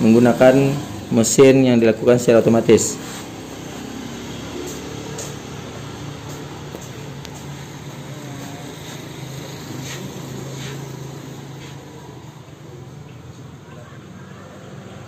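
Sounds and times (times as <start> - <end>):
low mechanical drone: 0.0 - 15.0.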